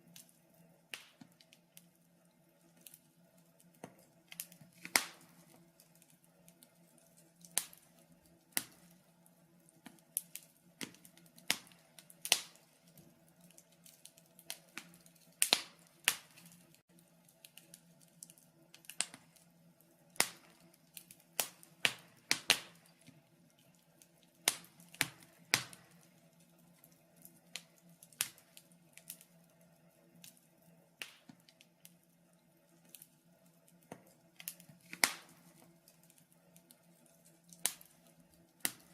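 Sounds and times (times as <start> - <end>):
fire crackling in a fireplace: 0.0 - 38.9.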